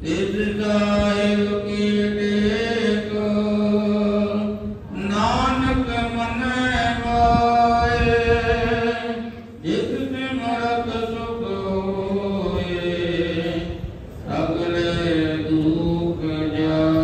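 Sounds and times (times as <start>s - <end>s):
man chanting hymns into microphone: 0.0s - 17.0s.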